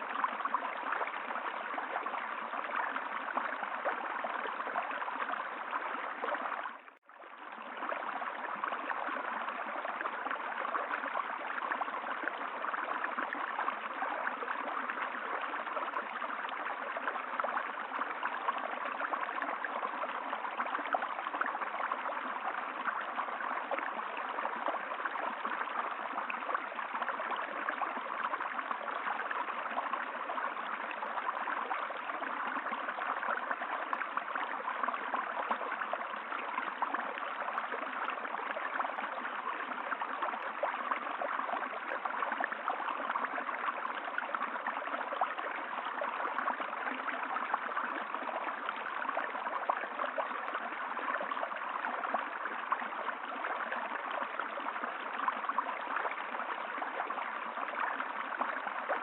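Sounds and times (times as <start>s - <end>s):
running water gurgling: 0.0s - 59.0s.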